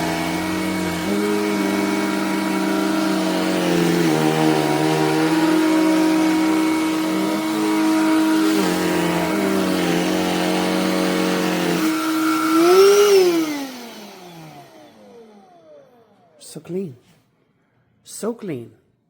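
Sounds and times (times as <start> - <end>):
handheld vacuum running: 0.0 - 16.4
vacuum winding down: 0.0 - 16.4.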